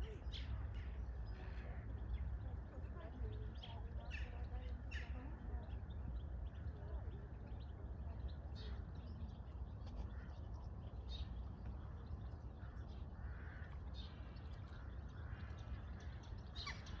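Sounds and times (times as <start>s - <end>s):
birds calling: 0.0s - 17.0s
steady low rumble: 0.0s - 17.0s.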